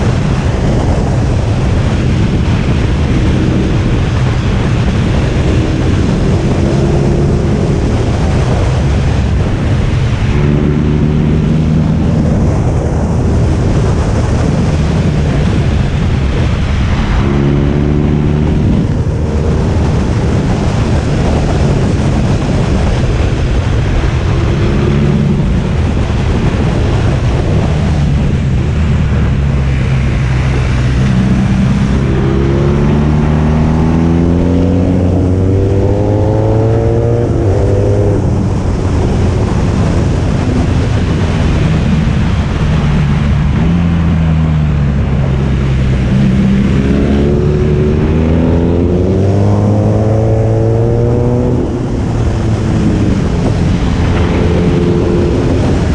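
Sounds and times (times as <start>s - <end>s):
motorcycle engine: 0.0s - 55.9s
rush of noise: 0.0s - 55.9s.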